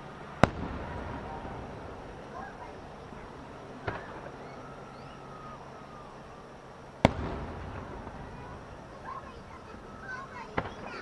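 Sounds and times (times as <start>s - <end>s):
fireworks bangs: 0.0s - 11.0s
rolling rumble: 0.0s - 11.0s.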